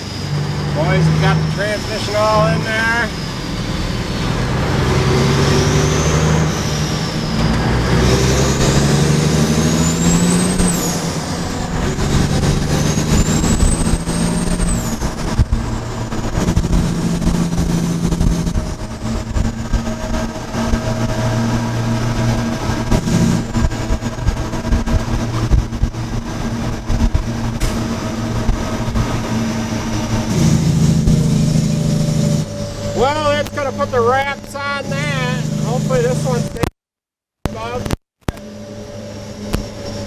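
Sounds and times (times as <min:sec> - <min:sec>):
high engine whistle: 0:00.0 - 0:36.6, 0:37.5 - 0:40.0
truck diesel engine pulling: 0:00.0 - 0:36.7, 0:37.5 - 0:40.0.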